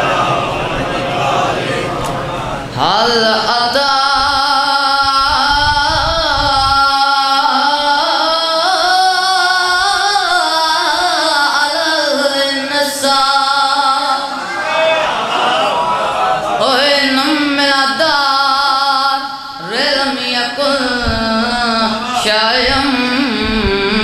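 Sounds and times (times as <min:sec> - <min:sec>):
boy chanting into a microphone: 0:00.0 - 0:14.5, 0:16.4 - 0:24.0.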